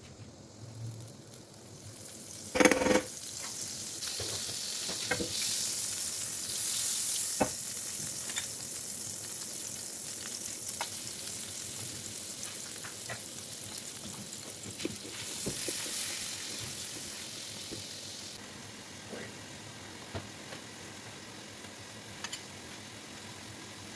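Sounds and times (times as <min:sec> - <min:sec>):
butter and garlic sizzling: 0:00.1 - 0:23.9.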